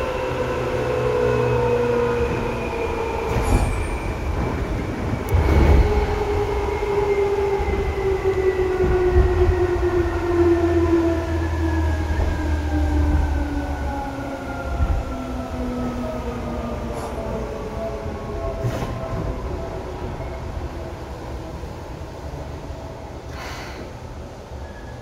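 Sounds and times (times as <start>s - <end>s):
train running rumble: 0.0s - 24.5s.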